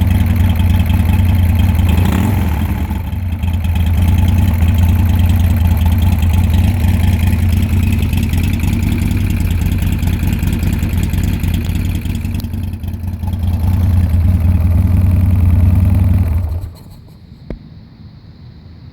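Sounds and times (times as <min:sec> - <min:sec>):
motorcycle engine idling: 0:00.0 - 0:17.1.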